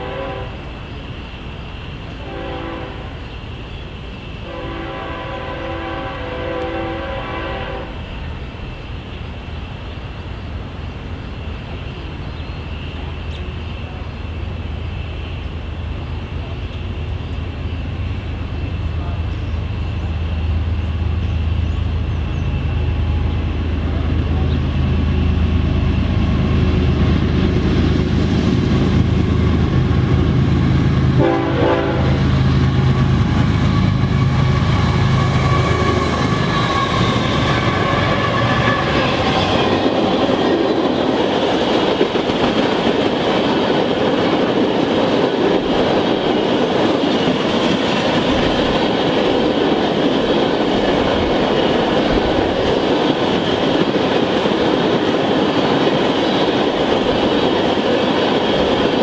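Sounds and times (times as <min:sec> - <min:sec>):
locomotive engines droning: 0:00.0 - 0:59.0
railcars clattering past: 0:00.0 - 0:59.0.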